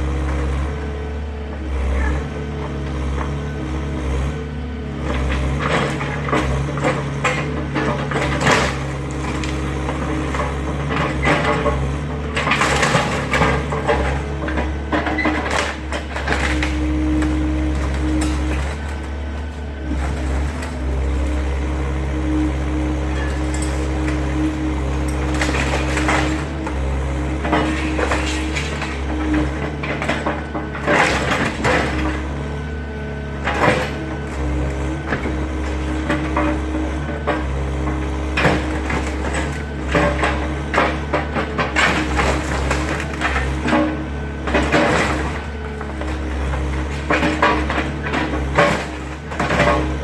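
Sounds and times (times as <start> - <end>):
excavator diesel engine running: 0.0 - 50.0
debris crunching and clattering: 5.0 - 22.0, 22.6 - 50.0
wood cracking and crashing: 5.0 - 22.0, 22.9 - 50.0.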